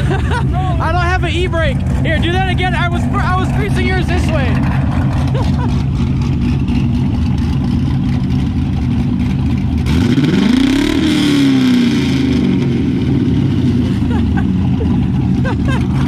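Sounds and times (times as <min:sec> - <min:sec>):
vee eight engine idling and revving: 0:00.0 - 0:16.0.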